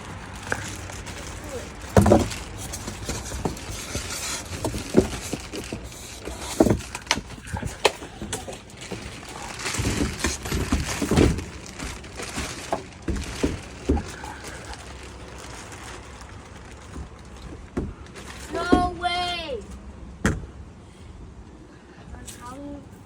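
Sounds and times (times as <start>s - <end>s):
boxed scooter being unpacked: 0.0s - 18.9s.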